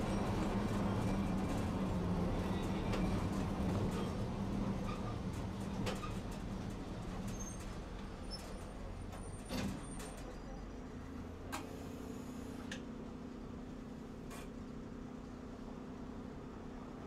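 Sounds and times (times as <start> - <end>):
tram low hum: 0.0 - 17.0.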